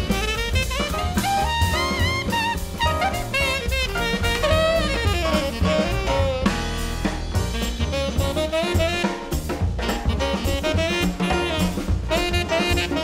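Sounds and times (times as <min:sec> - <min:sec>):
drum kit steady beat: 0:00.0 - 0:13.0
saxophone melody: 0:00.0 - 0:13.0.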